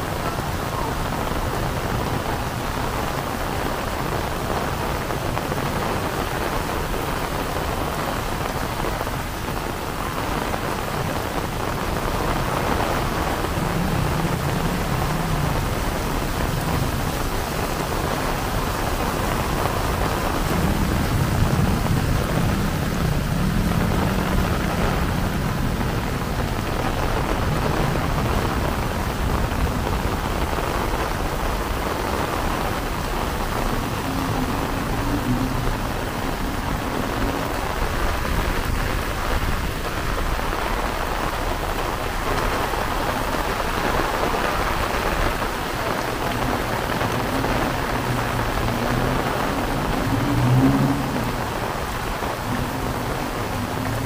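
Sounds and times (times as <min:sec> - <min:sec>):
heavy rain pouring: 0:00.0 - 0:54.0
thunder rumbling: 0:00.1 - 0:54.0.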